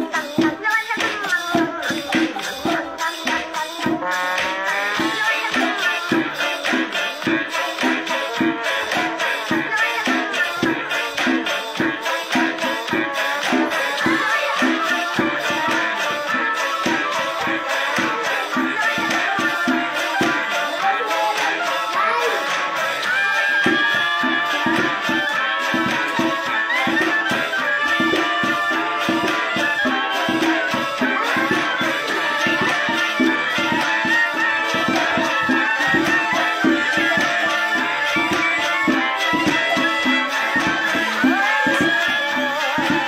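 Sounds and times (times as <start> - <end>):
hand drum beating: 0.0 - 43.0
rattling percussion: 0.0 - 43.0.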